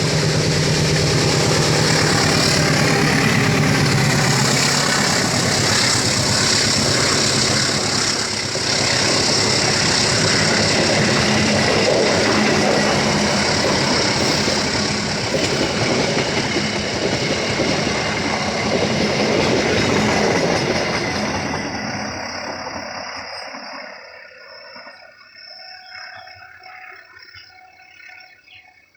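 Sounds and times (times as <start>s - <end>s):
train wheels clacking on rails: 0.0s - 24.0s.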